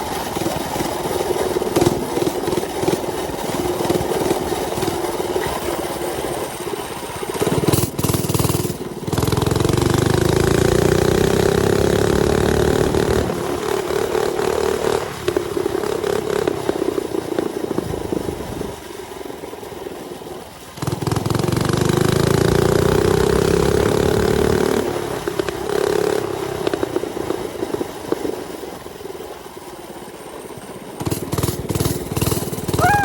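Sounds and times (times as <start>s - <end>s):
small engine revving: 0.0s - 18.7s, 20.7s - 28.5s, 31.0s - 33.0s.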